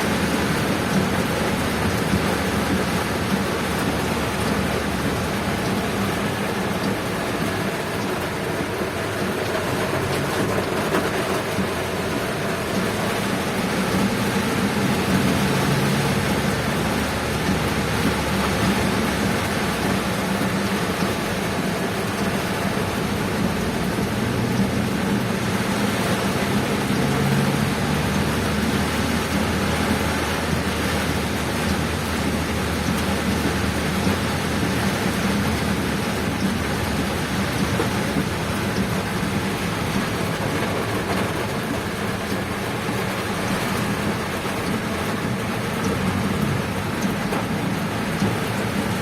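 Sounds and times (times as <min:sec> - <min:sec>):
heavy rain hissing: 0:00.0 - 0:49.0
road noise: 0:00.0 - 0:49.0
vehicle engine hum: 0:00.0 - 0:49.0.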